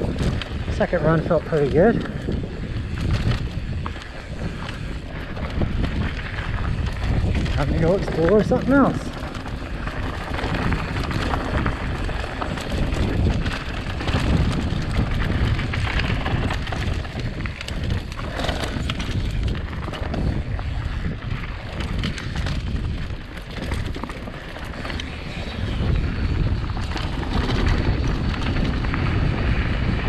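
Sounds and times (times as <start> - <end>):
bike clicks and rattles: 0.0 - 30.0
bike rolling on dirt trail: 0.0 - 30.0
wind rushing over microphone: 0.0 - 30.0.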